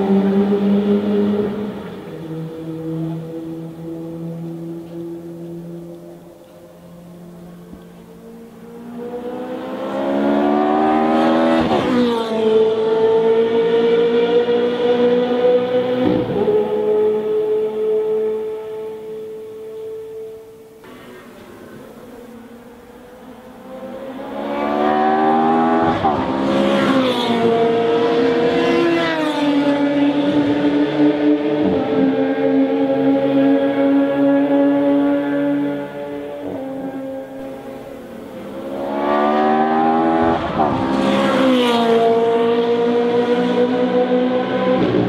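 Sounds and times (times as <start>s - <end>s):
race car engine accelerating: 0.0s - 45.0s.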